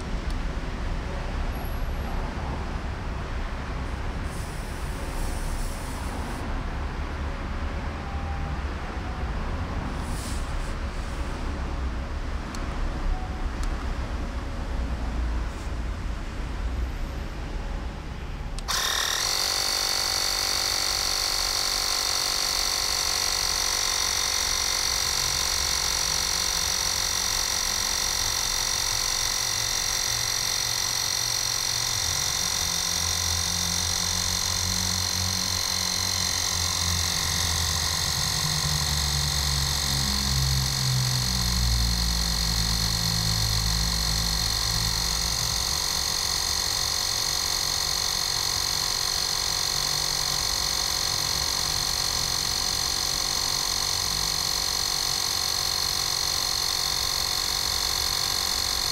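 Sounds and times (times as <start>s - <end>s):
mini compressor whining: 0.0s - 16.7s, 17.3s - 58.9s.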